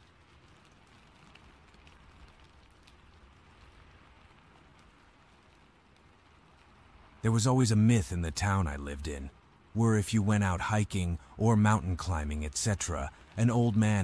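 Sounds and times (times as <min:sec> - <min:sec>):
light rain hissing: 0:00.0 - 0:14.0
raindrop ticks: 0:00.0 - 0:14.0.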